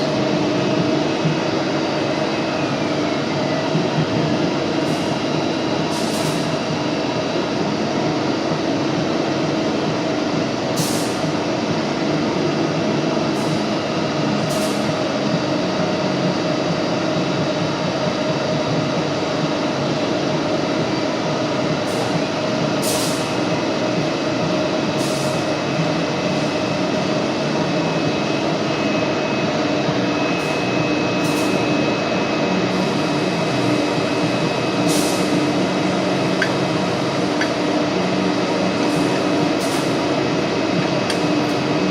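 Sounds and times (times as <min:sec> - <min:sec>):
machine hum and rumble: 0:00.0 - 0:41.9.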